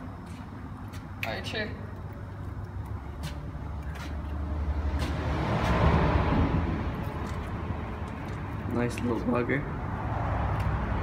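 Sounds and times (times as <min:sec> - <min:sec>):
traffic rumble on bridge: 0:00.0 - 0:11.0.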